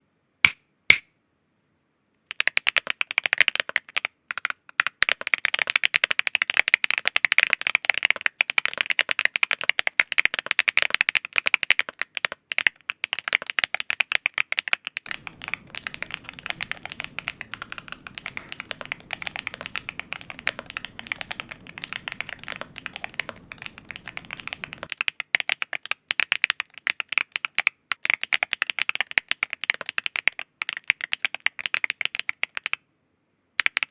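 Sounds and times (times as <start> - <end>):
fast typing on mechanical keyboard: 2.3 - 32.8, 33.6 - 33.9.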